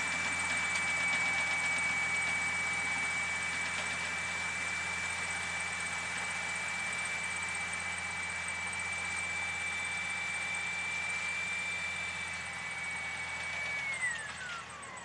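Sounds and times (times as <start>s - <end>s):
distant tractor engine drone: 0.0s - 15.0s
high-pitched machinery whine: 0.0s - 15.0s.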